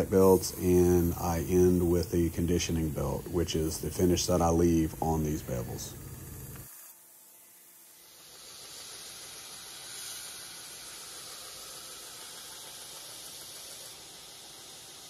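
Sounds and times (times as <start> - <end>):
belt grinder grinding knife: 0.0 - 15.0.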